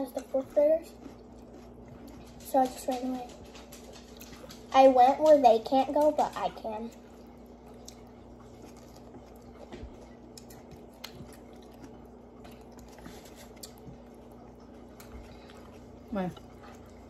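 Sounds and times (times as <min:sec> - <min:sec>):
person chewing raw vegetables: 0:00.0 - 0:17.0
steady low hum: 0:00.0 - 0:17.0.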